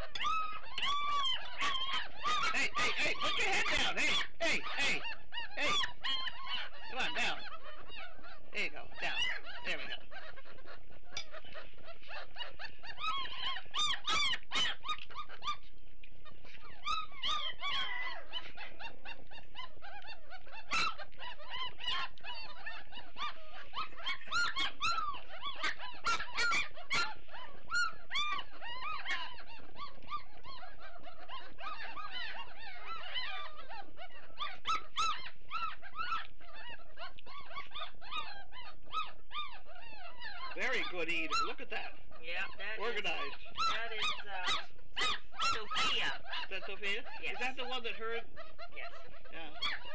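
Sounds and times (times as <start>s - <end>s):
puppies squealing and whining: 0.0s - 49.9s.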